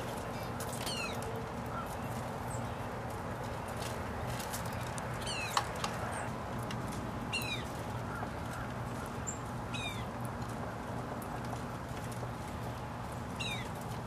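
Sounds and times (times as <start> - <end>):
dry leaves rustling: 0.0 - 14.0.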